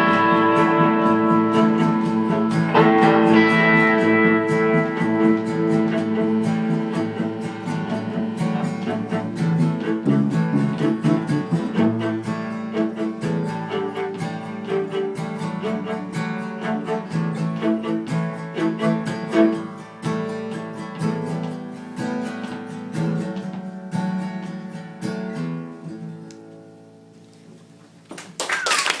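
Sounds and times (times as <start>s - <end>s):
acoustic guitar finger-picking: 0.0s - 28.1s.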